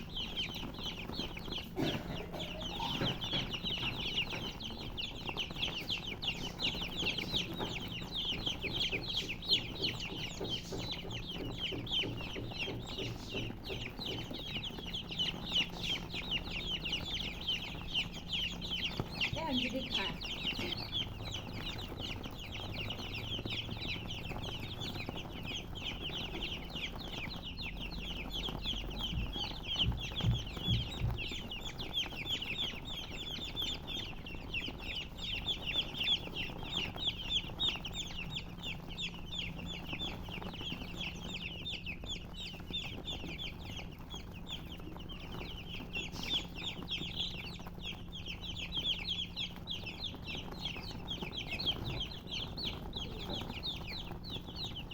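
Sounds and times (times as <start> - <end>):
low thumps: 0.0 - 45.6
baby chicks peeping: 0.0 - 54.9.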